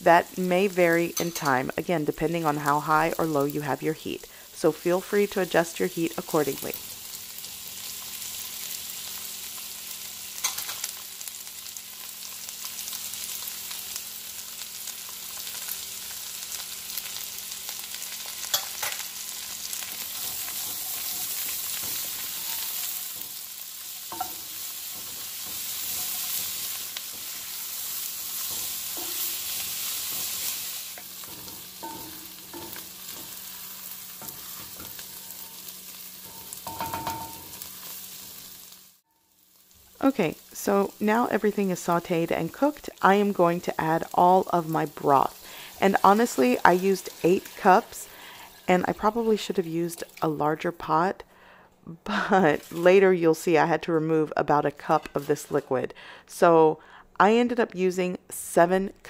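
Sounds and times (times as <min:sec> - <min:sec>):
vegetables and sausage sizzling: 0:00.0 - 0:58.6.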